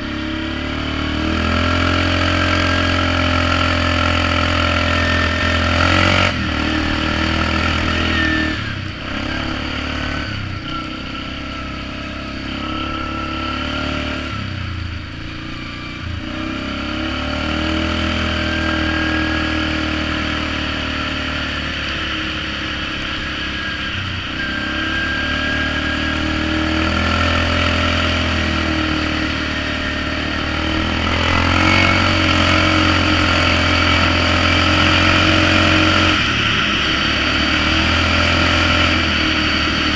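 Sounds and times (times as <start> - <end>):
atv engine revving while riding: 0.0 - 39.9.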